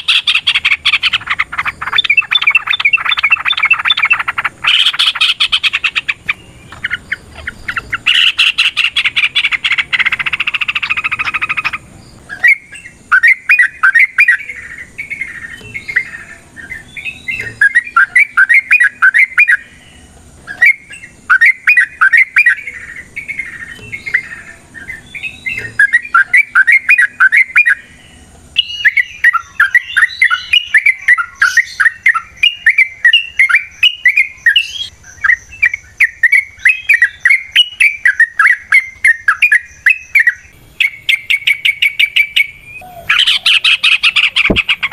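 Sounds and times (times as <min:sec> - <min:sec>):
bird chattering song: 0:00.0 - 0:44.9.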